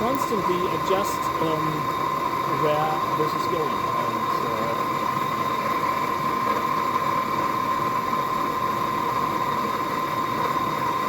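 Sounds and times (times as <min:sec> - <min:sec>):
blower air rush: 0:00.0 - 0:11.0
blower high whine: 0:00.0 - 0:11.0.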